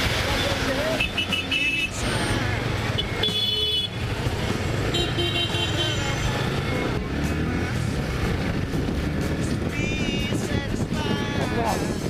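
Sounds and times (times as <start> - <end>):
motorcycle engine and road rumble: 0.0 - 12.0
music playing: 0.0 - 12.0.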